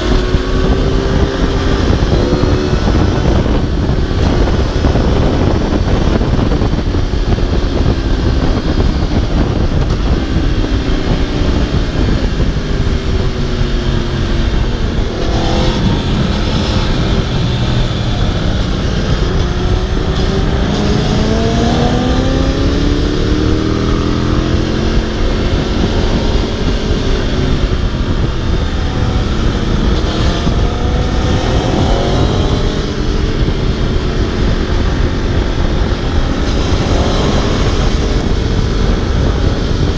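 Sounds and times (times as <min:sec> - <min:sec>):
low rush of noise: 0:00.0 - 0:39.9
motorcycle engine at speed: 0:00.0 - 0:39.9.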